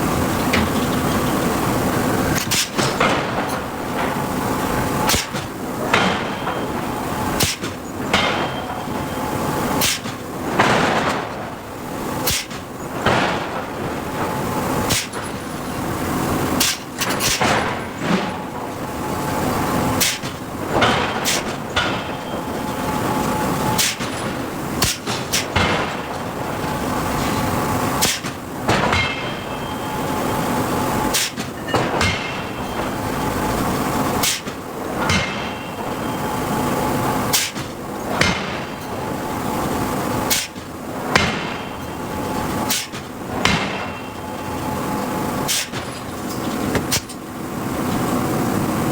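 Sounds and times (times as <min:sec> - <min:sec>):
shop machinery hum: 0:00.0 - 0:48.9
forging hammer striking steel: 0:02.4 - 0:11.4, 0:12.2 - 0:18.5, 0:19.5 - 0:39.1, 0:40.3 - 0:47.2.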